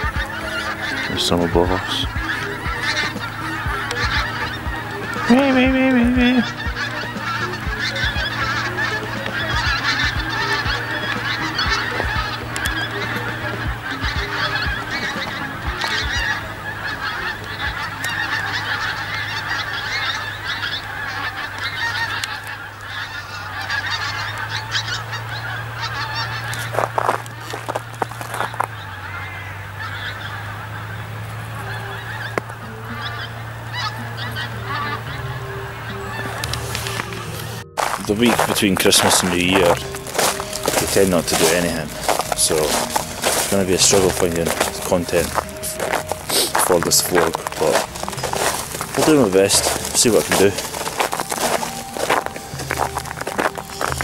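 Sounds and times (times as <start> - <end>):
deep goose call: 0.0 - 54.0
flock of geese honking: 0.0 - 54.0.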